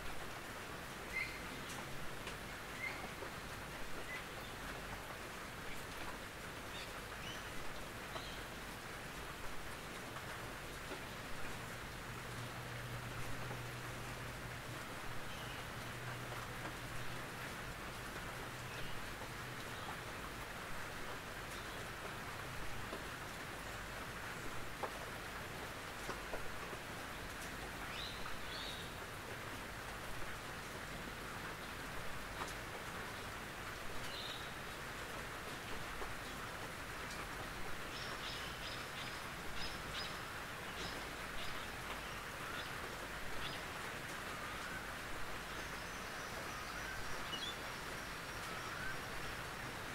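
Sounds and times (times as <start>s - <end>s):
rain on a tin roof: 0.0s - 49.9s.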